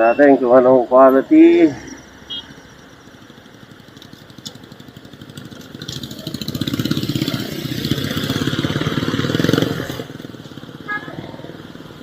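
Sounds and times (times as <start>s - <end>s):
motorcycle engine running: 2.3s - 12.0s.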